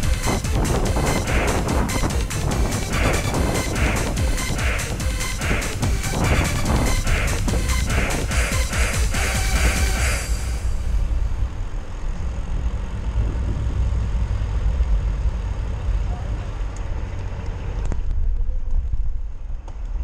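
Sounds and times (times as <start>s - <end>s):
street traffic: 0.0s - 20.0s
wind buffeting microphone: 0.0s - 20.0s.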